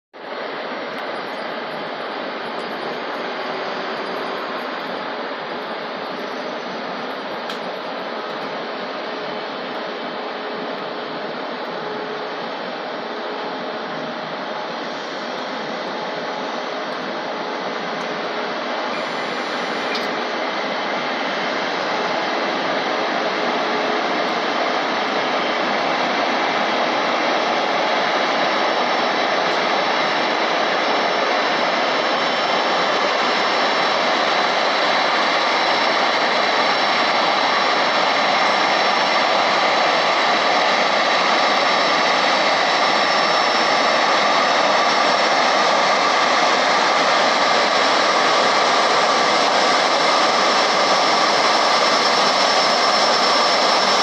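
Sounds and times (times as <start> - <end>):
jet engines rushing with whine: 0.2 - 54.0.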